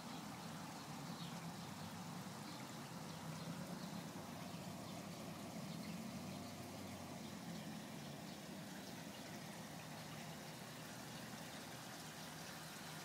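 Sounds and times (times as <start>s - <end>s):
trickling water: 0.0s - 13.0s.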